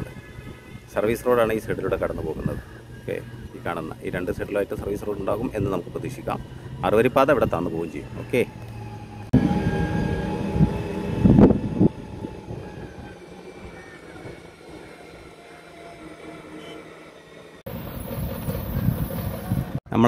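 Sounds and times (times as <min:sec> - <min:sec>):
construction vehicle diesel engines rumbling: 0:00.0 - 0:19.8.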